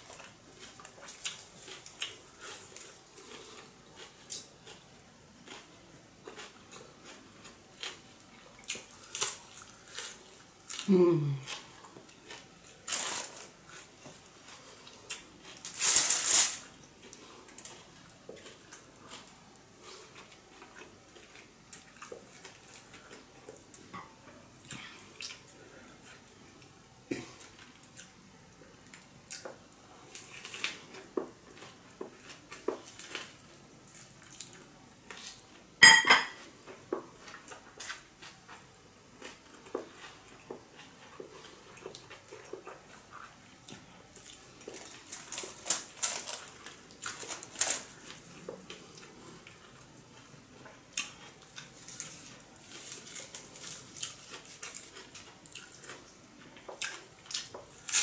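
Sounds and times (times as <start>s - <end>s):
person chewing: 0.0s - 23.9s, 24.6s - 35.6s, 36.7s - 58.0s.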